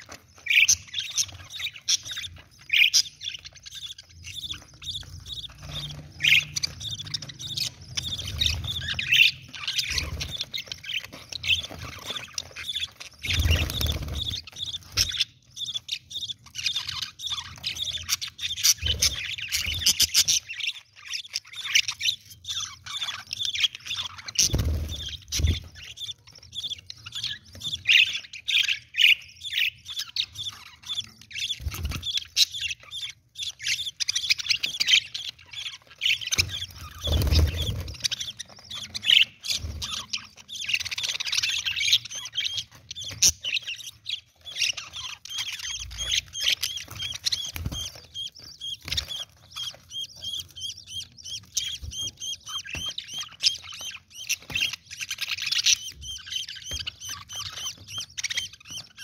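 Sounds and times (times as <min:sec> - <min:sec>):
chick high-pitched chirps: 0:00.0 - 0:59.0.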